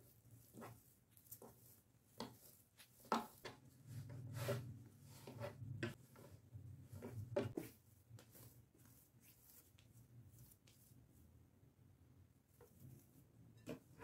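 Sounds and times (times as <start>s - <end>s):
dough rubbing and scraping: 0.0s - 11.4s.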